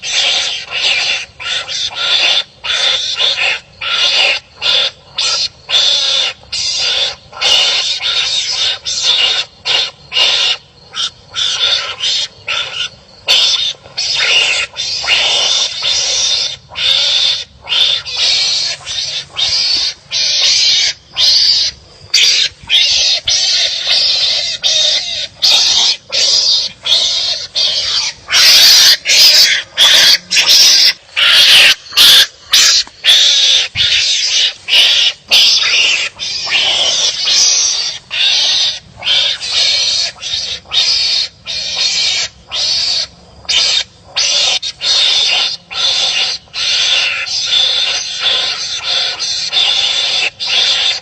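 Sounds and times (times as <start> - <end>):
animals giving raspy barking calls: 0.0 - 51.0.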